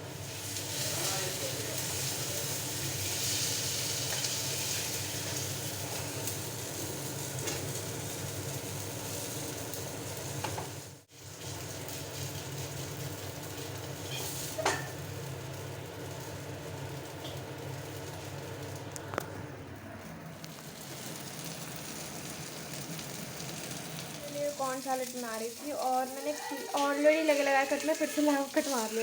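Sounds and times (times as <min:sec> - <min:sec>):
food sizzling in a pan: 0:00.0 - 0:19.0, 0:20.4 - 0:29.0.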